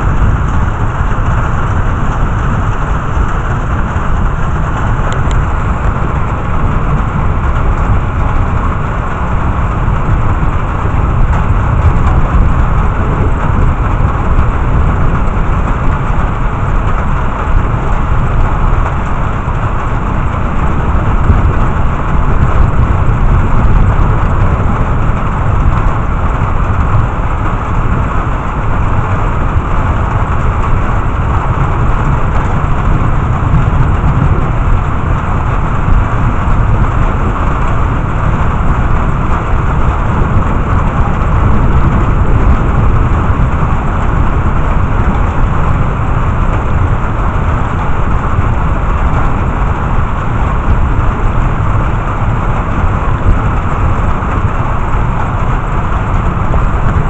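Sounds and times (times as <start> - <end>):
constant low rumble: 0.0 - 57.0
heavy rain falling: 0.0 - 57.0.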